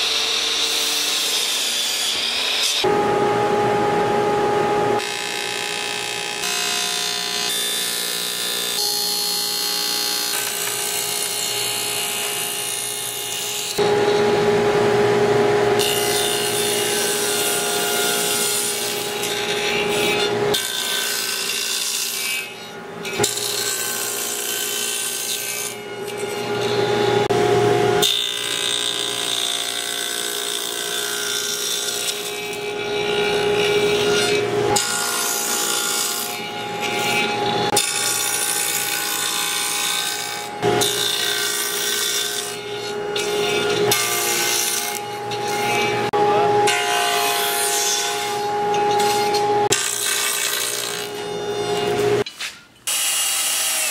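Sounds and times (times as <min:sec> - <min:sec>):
table saw cutting wood: 0:00.0 - 0:52.3, 0:52.9 - 0:53.9.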